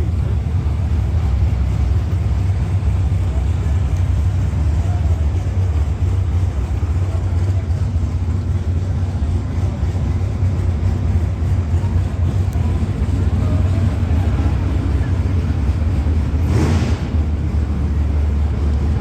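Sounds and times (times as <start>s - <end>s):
car engines rumbling: 0.0s - 19.0s.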